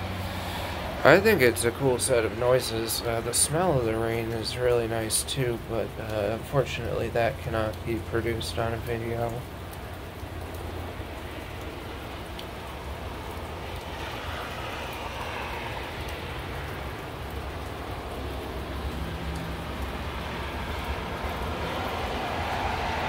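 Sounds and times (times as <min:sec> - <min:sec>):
drips ticking: 0:00.0 - 0:23.0
highway traffic on wet roads: 0:00.0 - 0:23.0
steady rain: 0:00.0 - 0:23.0.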